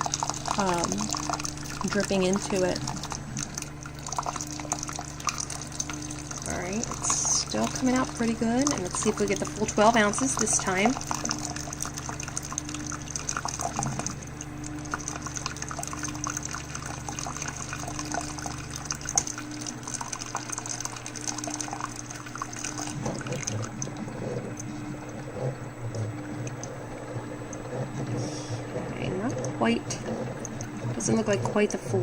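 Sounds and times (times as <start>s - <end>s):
coffee maker humming: 0.0s - 32.0s
liquid dripping into cup: 0.0s - 32.0s.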